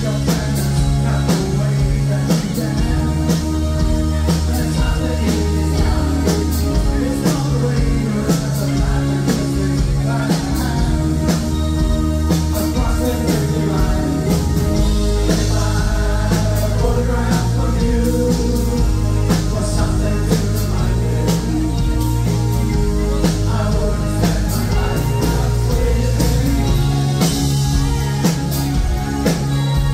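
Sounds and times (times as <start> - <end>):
person singing: 0.0 - 28.6
bass: 0.0 - 29.9
drum kit beat: 0.0 - 29.9
electric guitars: 0.0 - 29.9
synthesizer keyboards: 0.0 - 29.9.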